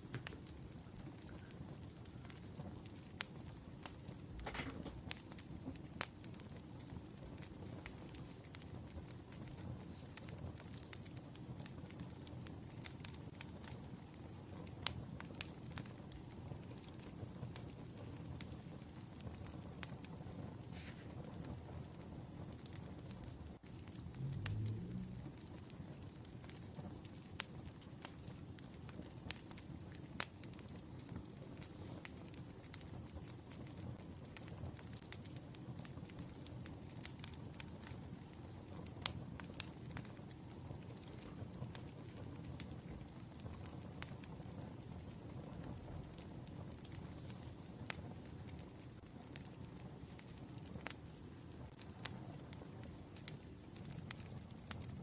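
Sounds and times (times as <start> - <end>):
burning logs rumbling: 0.0 - 55.0
wood fire crackling and popping: 0.0 - 55.0.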